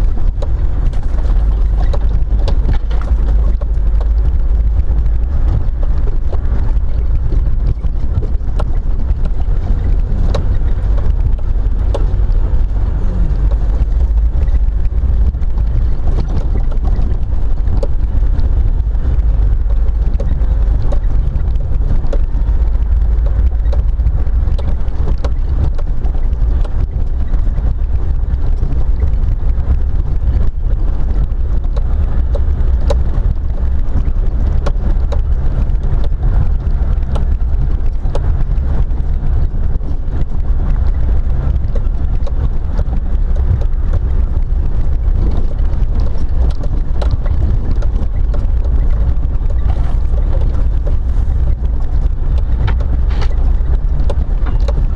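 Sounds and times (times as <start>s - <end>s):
small knocks and clicks: 0.0s - 54.9s
vehicle rumbling on dirt track: 0.0s - 54.9s.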